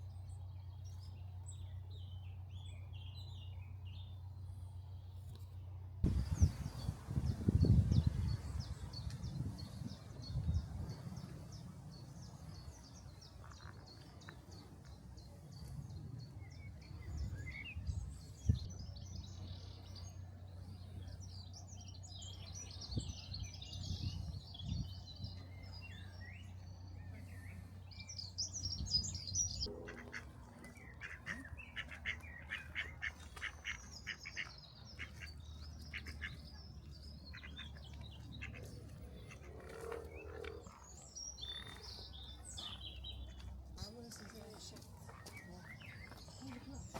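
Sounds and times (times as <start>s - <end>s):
birds singing and chirping: 6.1s - 46.9s.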